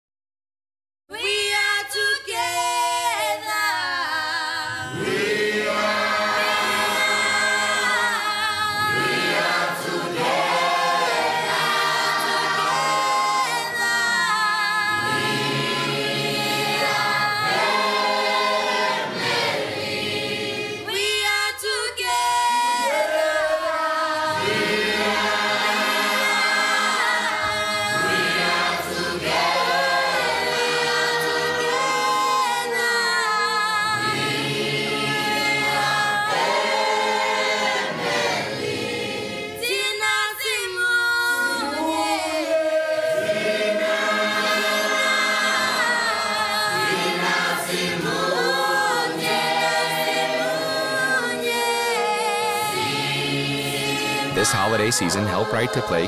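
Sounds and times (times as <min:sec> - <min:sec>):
choir singing: 0:01.1 - 0:56.0.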